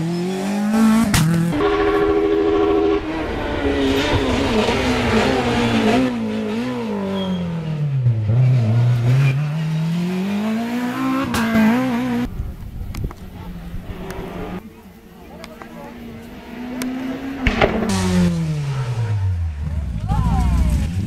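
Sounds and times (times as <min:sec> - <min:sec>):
rally car engine revving: 0:00.0 - 0:12.4, 0:13.2 - 0:21.0.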